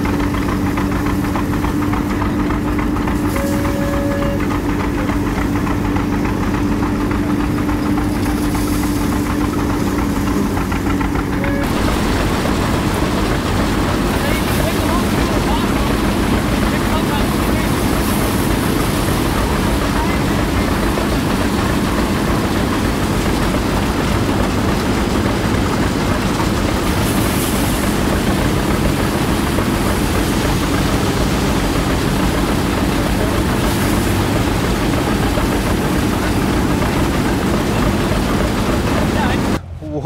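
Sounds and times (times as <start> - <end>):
constant rushing noise: 0.0 - 40.0
engine running steadily: 0.0 - 40.0.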